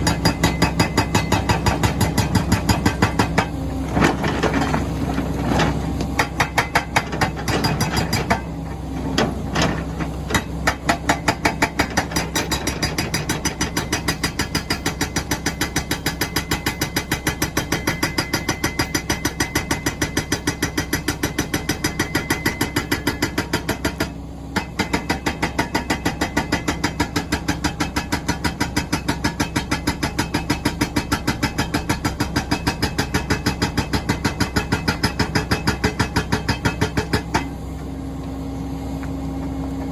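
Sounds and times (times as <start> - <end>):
excavator diesel engine drone: 0.0 - 28.2, 29.9 - 39.9
hydraulic breaker hammering stone: 0.0 - 37.6.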